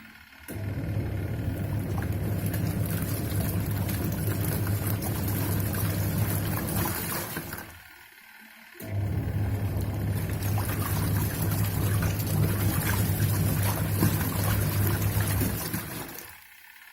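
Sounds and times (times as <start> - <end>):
washing machine motor humming: 0.0 - 16.9.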